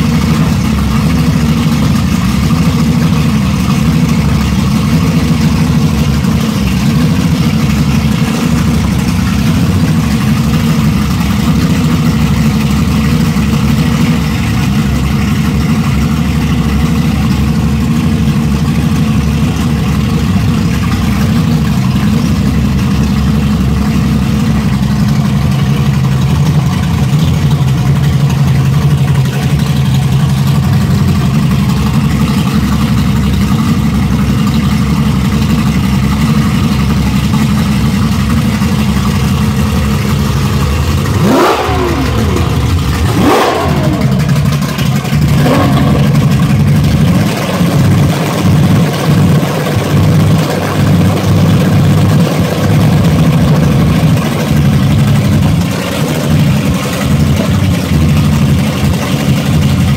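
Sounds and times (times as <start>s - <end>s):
outboard engines running: 0.0s - 59.9s
propellers churning water: 0.0s - 59.9s.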